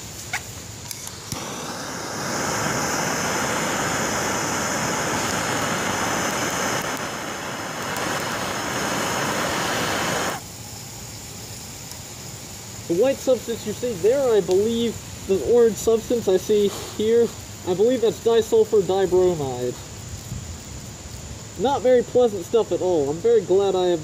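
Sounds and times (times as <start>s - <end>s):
gas torch flame hissing: 0.0s - 24.0s.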